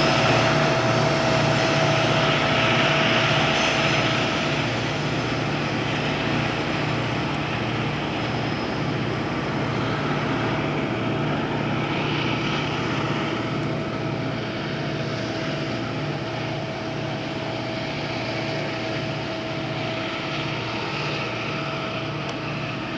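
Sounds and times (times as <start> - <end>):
diesel locomotives droning: 0.0 - 22.9
steady whine: 0.0 - 22.9.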